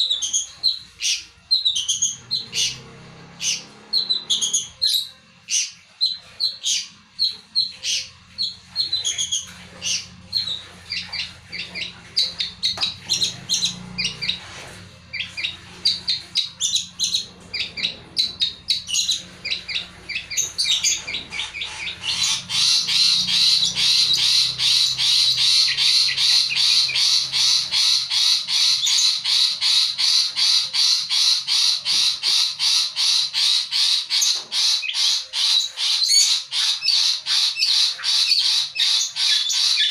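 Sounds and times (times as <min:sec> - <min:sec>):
bird singing harsh chirping song: 0:00.0 - 0:39.9.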